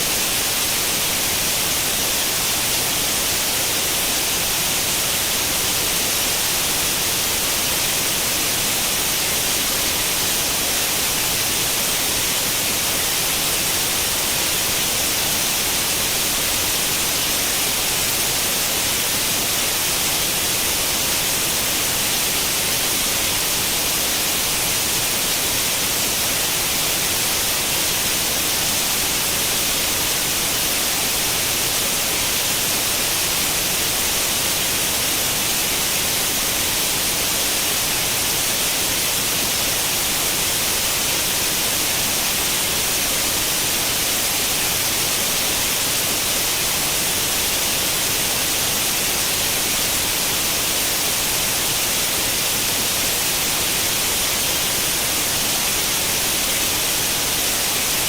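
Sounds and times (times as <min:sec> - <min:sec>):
television static hiss: 0:00.0 - 0:58.0.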